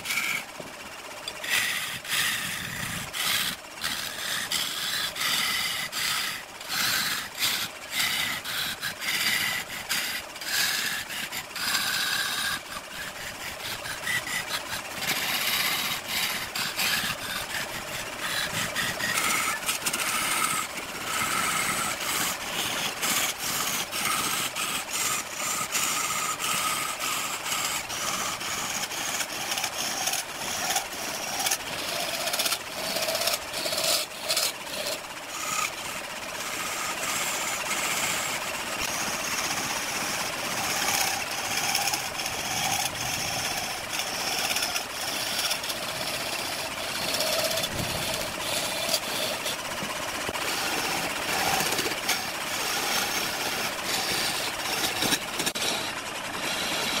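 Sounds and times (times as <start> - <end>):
lathe tool scraping wood: 0.0 - 57.0
rapid irregular ticking: 0.0 - 57.0.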